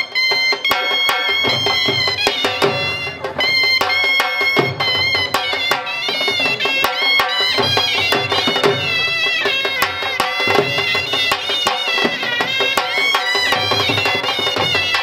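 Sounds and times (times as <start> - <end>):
dhol drum beat: 0.0 - 15.0
shehnais playing wailing melody: 0.0 - 15.0.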